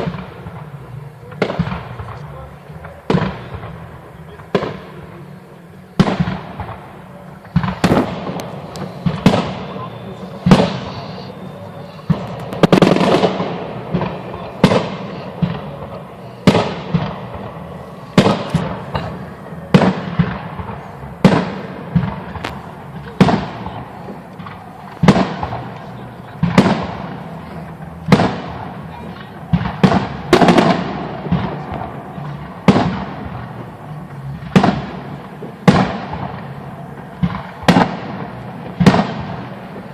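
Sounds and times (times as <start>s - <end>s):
firework shells bursting with echo: 0.0s - 39.9s.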